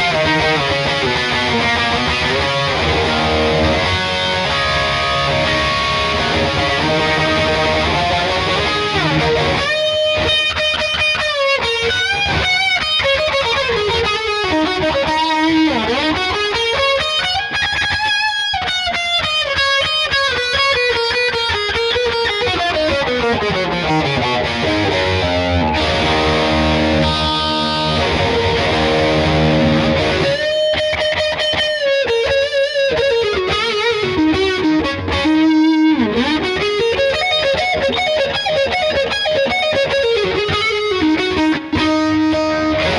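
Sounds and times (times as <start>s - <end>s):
distorted electric guitar: 0.0s - 42.9s.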